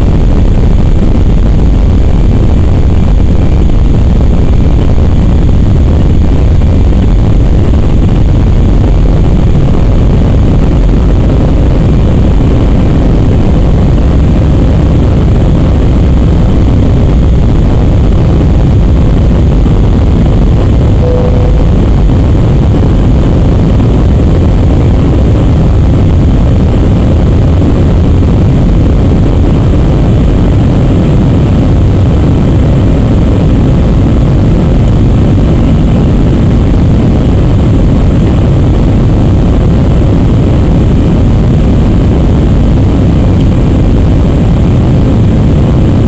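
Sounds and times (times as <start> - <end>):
faint high whine: 0.0 - 46.0
jet engine cabin rumble: 0.0 - 46.0.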